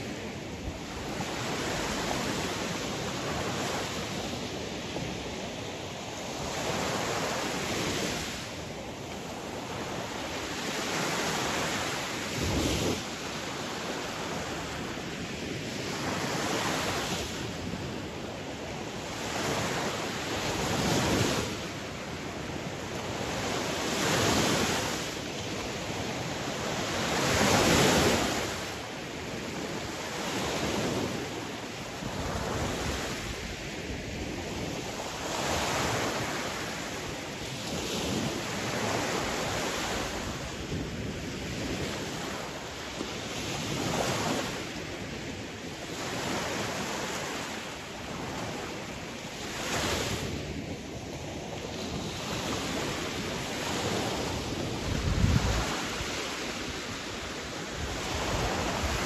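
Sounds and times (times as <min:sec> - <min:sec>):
rush of surf: 0:00.0 - 0:59.0.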